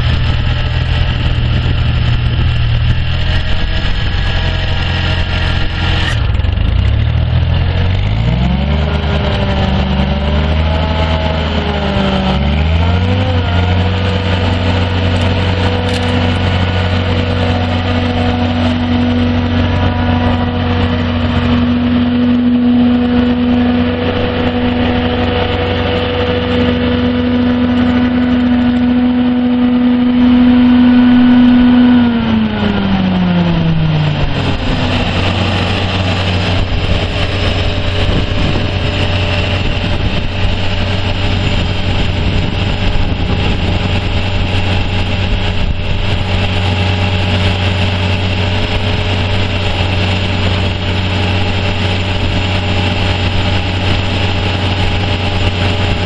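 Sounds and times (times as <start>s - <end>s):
mower engine revving: 0.0s - 56.0s.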